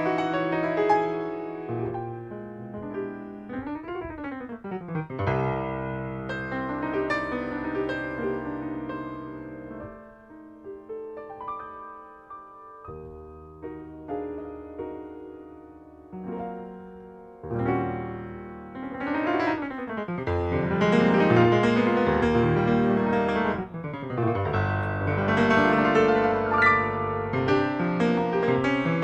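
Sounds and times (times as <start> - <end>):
piano ballad chords: 0.0 - 29.0.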